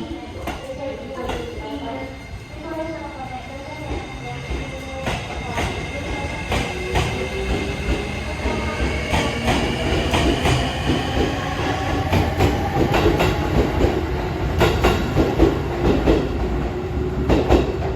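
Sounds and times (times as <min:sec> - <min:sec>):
train rumble: 0:00.0 - 0:17.9.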